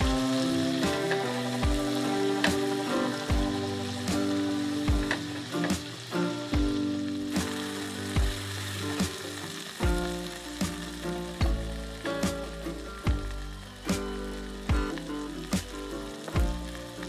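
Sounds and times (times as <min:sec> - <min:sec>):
background music with steady beat: 0:00.0 - 0:17.0
vegetables sizzling in oil: 0:00.0 - 0:17.0.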